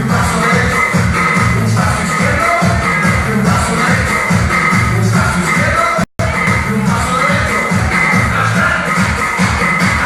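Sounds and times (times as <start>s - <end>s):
pulsing bass line: 0.0s - 10.0s.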